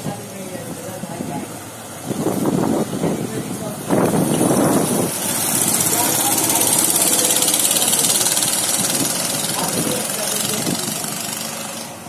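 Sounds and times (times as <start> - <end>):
go-kart engines driving past: 0.0 - 12.0.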